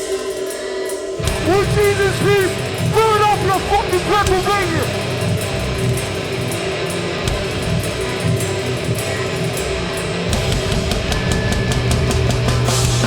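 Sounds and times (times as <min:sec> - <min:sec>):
drums: 0:00.0 - 0:13.0
bass guitar: 0:01.2 - 0:13.0
distorted guitars: 0:01.2 - 0:13.0.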